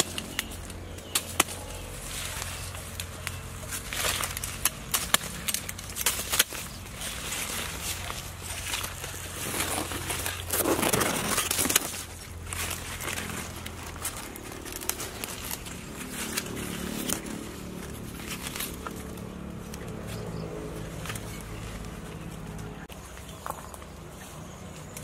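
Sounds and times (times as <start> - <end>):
rustling and crackling of roots: 0.0 - 25.0.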